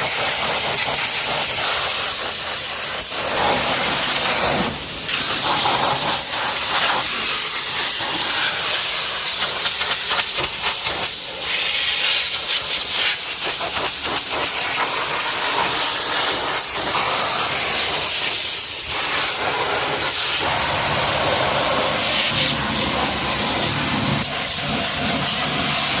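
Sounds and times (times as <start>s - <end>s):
high-pressure water jet hissing: 0.0s - 26.0s.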